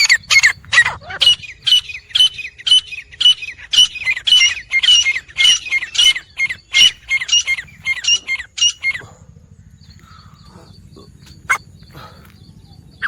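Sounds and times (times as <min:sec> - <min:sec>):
francolins calling in chorus: 0:00.0 - 0:13.0.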